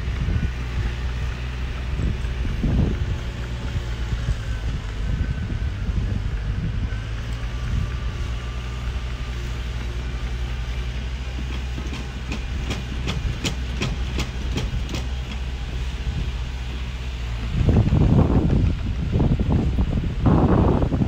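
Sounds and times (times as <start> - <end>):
diesel machinery droning: 0.0 - 21.0
loud rumble: 0.0 - 21.0.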